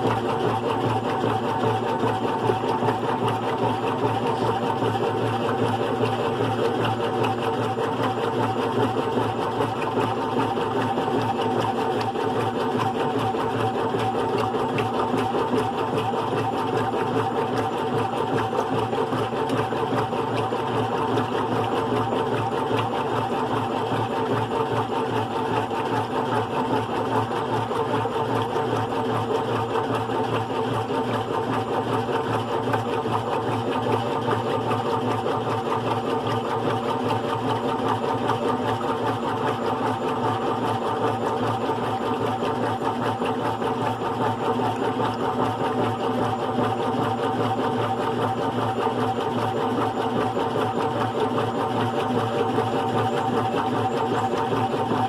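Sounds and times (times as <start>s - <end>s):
washing machine whirring and humming: 0.0s - 55.0s.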